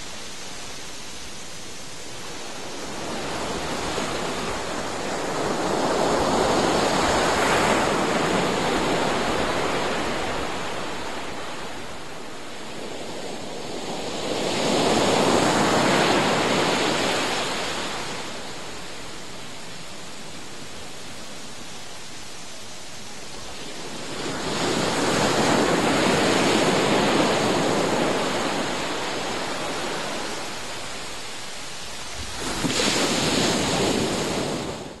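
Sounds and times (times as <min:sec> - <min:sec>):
ocean waves breaking on beach: 0:00.0 - 0:35.0.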